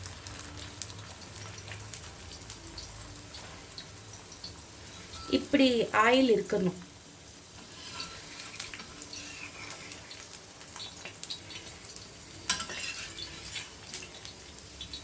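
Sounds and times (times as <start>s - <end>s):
flatbread sizzling in hot oil: 0.0s - 15.0s.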